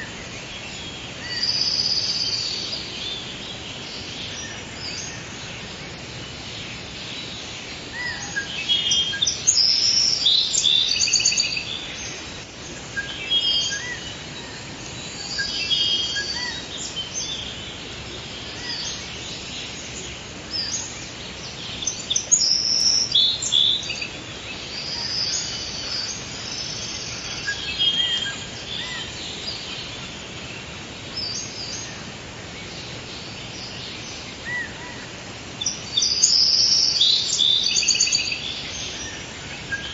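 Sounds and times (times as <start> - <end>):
background hiss: 0.0 - 39.9
birds chirping and trilling: 0.0 - 39.9.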